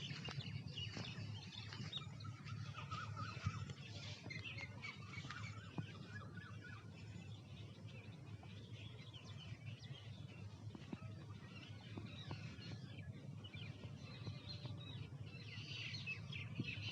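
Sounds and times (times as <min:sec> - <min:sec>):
faint birds chirping: 0:00.0 - 0:16.9
steady low rumble: 0:00.0 - 0:16.9.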